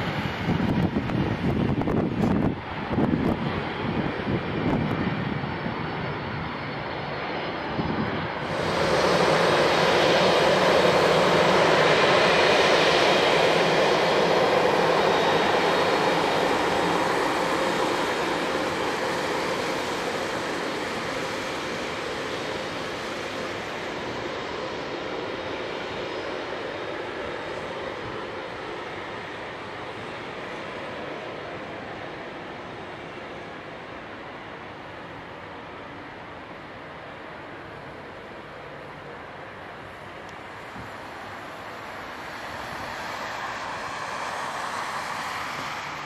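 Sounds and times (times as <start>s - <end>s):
jet engines rushing: 0.0s - 46.0s.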